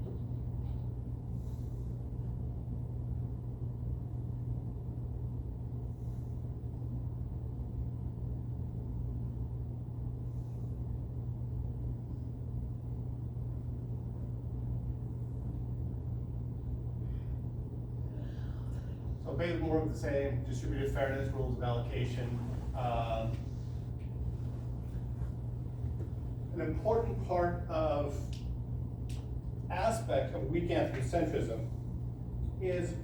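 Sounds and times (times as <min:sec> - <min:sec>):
low background hum and rumble: 0:00.0 - 0:33.0.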